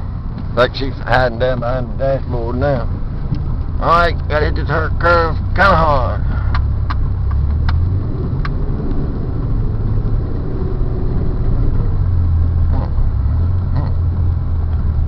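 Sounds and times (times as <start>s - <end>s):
car engine humming inside cabin: 0.0s - 15.0s.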